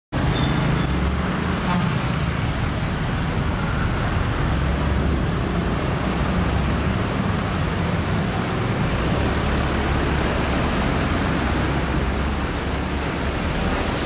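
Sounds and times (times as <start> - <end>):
road traffic rumble: 0.1 - 14.0.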